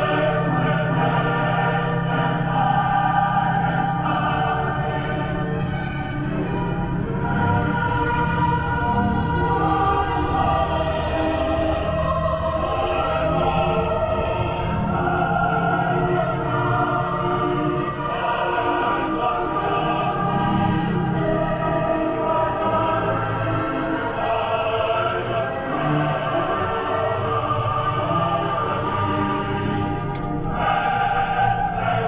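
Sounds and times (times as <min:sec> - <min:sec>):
choral voices in long chords: 0:00.0 - 0:32.0.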